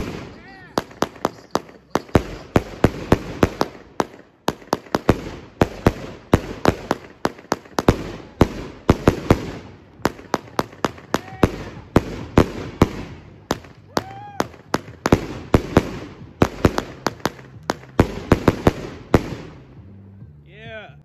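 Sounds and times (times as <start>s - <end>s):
firework bangs with crackling: 0.0s - 19.8s.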